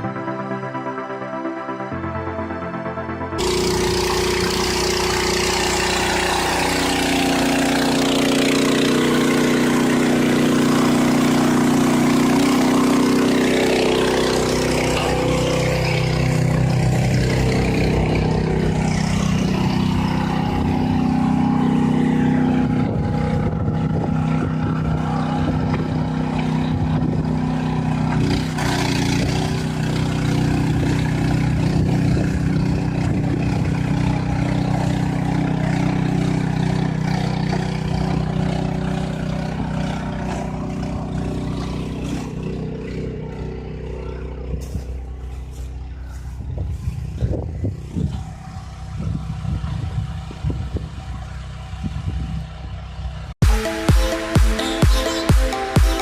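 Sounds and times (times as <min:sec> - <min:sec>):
farm machine engine running: 0:01.7 - 0:56.0.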